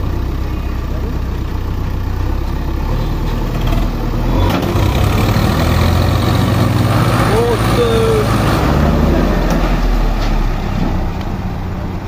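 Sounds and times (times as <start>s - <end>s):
diesel engines running hard: 0.0s - 12.0s.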